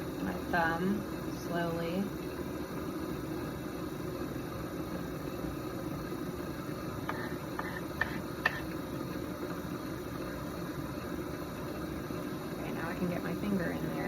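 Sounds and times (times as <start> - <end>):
potter's wheel motor hum: 0.0 - 14.0.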